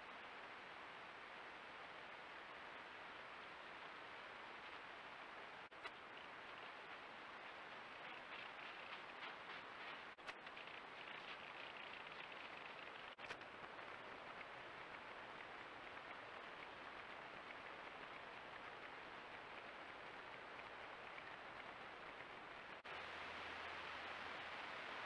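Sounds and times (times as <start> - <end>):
microphone hiss: 0.0 - 25.0.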